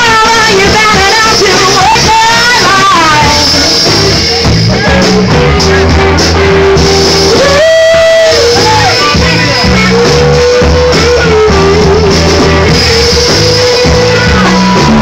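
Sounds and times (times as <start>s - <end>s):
live blues band playing: 0.0s - 15.0s
person singing long notes: 0.0s - 15.0s.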